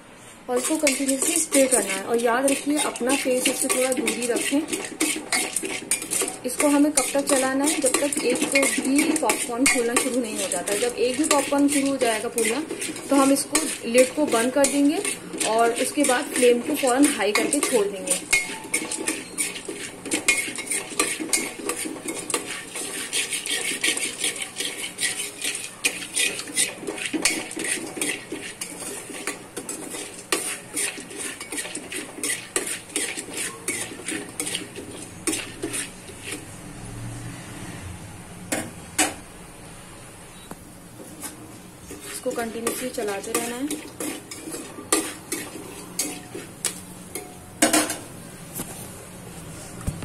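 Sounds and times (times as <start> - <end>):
metal spoon scraping a pot: 0.5 - 36.6, 41.0 - 48.1.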